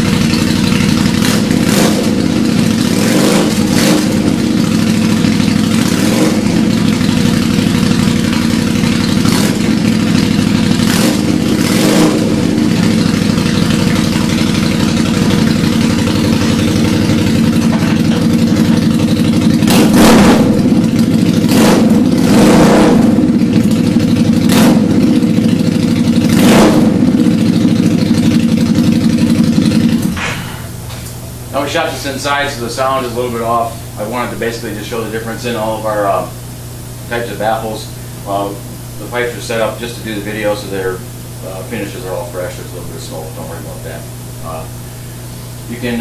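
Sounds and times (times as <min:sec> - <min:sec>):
motorcycle engine idling and revving: 0:00.0 - 0:46.0.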